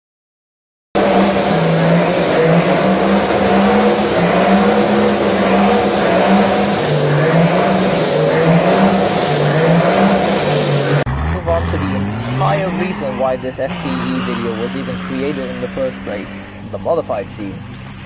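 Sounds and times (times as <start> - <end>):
diesel engine revving: 1.0 - 18.0.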